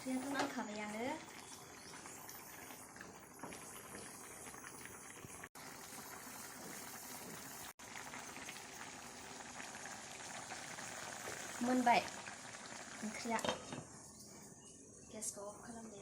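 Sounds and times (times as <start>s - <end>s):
curry simmering with bubbling: 0.0s - 14.9s.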